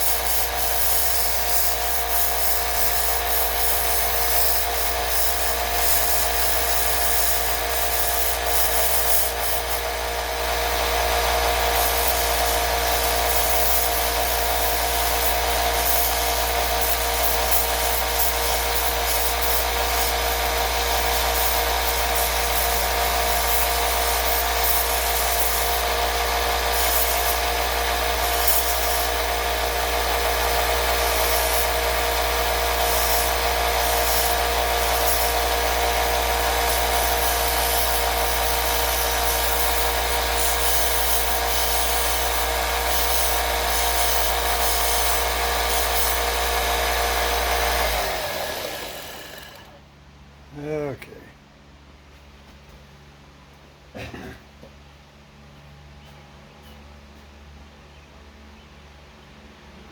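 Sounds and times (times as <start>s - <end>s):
belt sander grinding metal: 0.0s - 49.8s.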